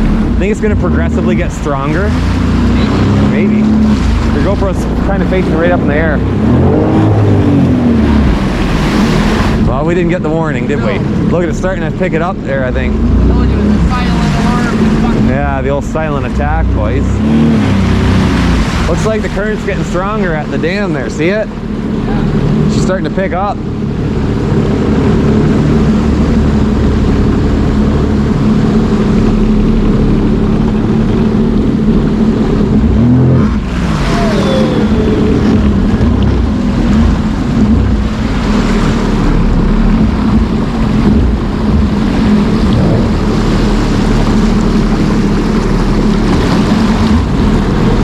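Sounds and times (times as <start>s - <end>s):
personal watercraft engine running: 0.0s - 48.0s.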